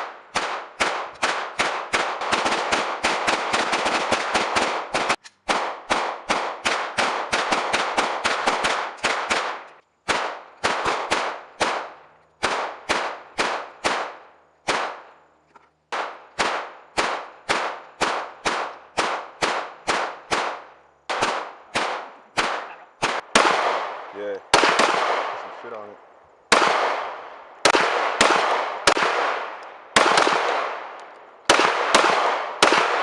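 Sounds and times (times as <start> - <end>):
gunshots with echo: 0.0 - 15.1, 15.9 - 25.9, 26.5 - 33.0.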